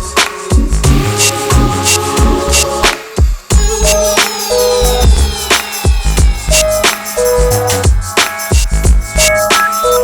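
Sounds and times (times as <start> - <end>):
electronic hip-hop beat: 0.0 - 10.0.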